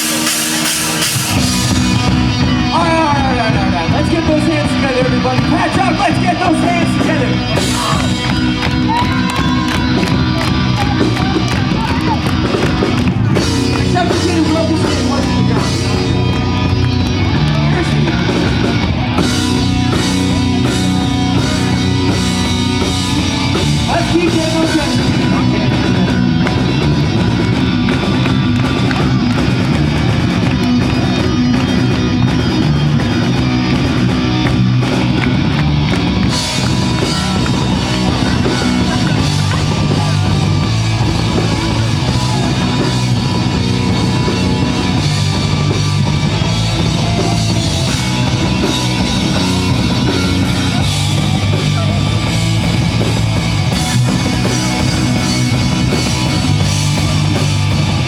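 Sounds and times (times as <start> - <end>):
bass guitar: 0.0 - 58.0
distorted electric guitar: 0.0 - 58.0
drum kit beat: 0.0 - 58.0.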